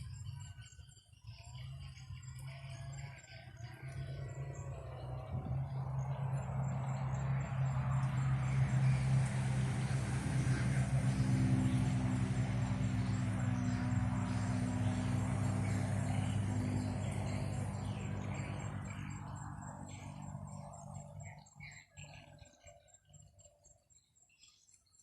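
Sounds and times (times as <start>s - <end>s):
vehicle engine humming: 1.4s - 22.4s.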